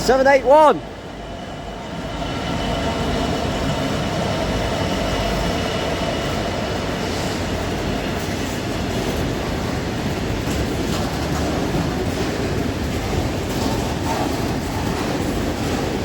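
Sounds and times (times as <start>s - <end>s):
freight train rumbling past: 0.0s - 16.0s
train wheel clicks: 2.3s - 16.0s.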